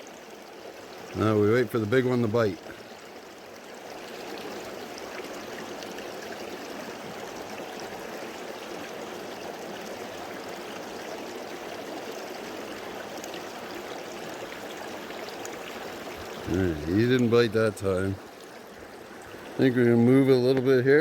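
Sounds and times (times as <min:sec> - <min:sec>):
creek water babbling: 0:00.0 - 0:21.0.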